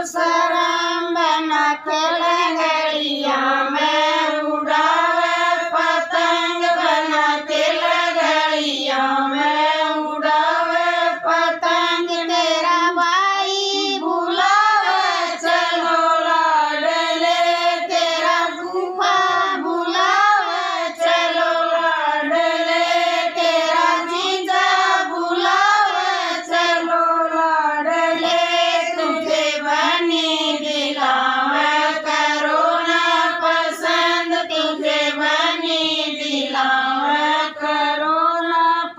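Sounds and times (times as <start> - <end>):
women singing in unison: 0.0 - 38.9.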